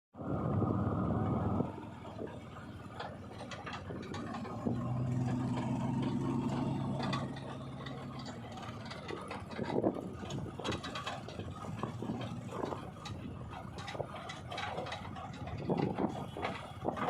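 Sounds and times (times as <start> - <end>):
diesel machinery engine running: 0.2 - 17.0
metallic clicks and clanks: 2.0 - 17.0.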